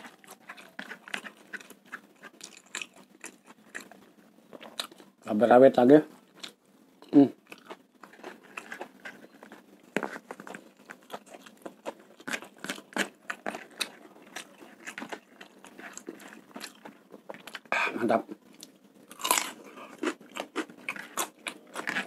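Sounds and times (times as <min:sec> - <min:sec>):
crunchy chewing: 0:00.0 - 0:05.2, 0:06.3 - 0:22.0.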